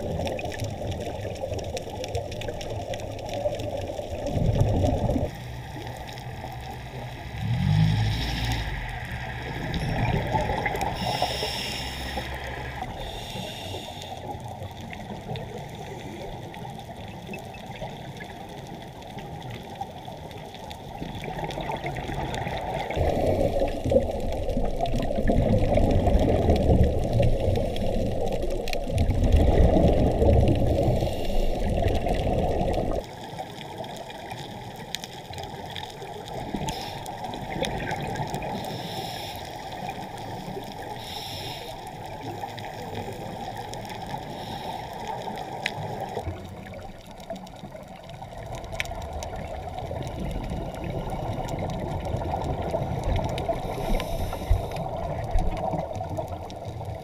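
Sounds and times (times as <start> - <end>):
muffled underwater rush: 0.0 - 57.0.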